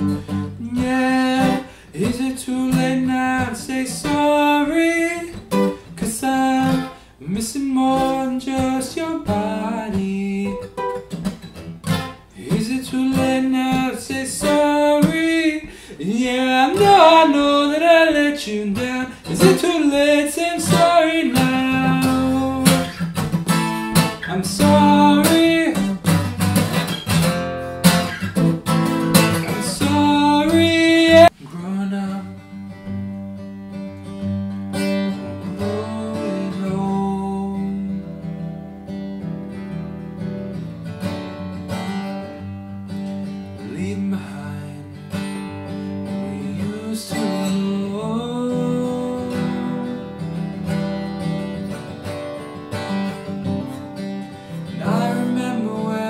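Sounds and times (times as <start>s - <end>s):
acoustic guitar strummed: 0.0s - 56.0s.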